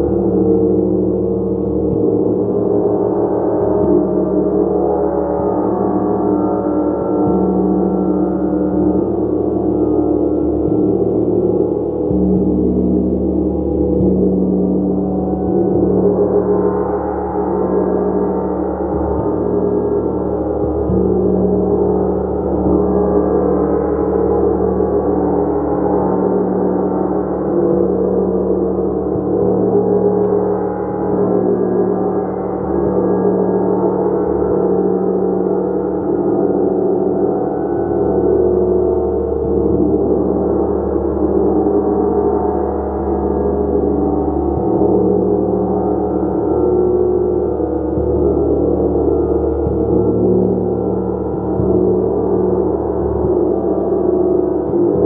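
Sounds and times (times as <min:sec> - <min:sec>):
large gong shimmering: 0:00.0 - 0:55.0.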